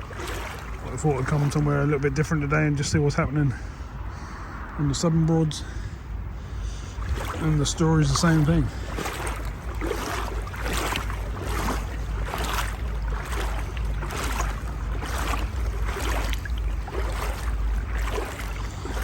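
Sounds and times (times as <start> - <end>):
wading through water sloshing: 0.0 - 4.6, 5.6 - 19.0
wind rumble on microphone: 0.0 - 19.0.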